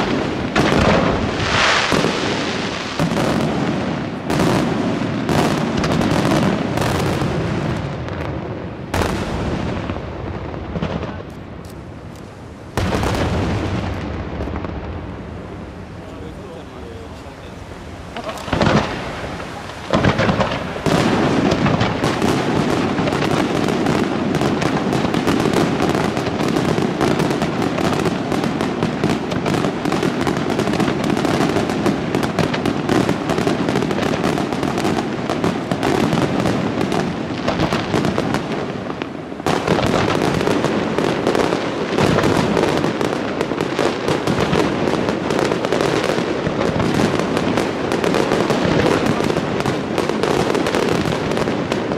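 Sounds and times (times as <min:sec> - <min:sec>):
barrage of rapid firework bangs: 0:00.0 - 0:51.9.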